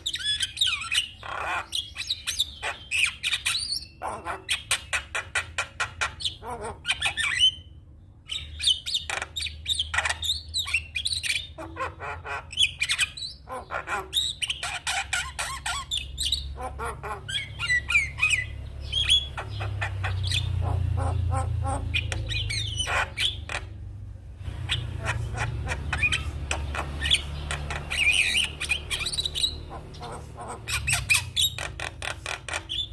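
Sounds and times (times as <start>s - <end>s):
bird chattering song: 0.0s - 32.9s.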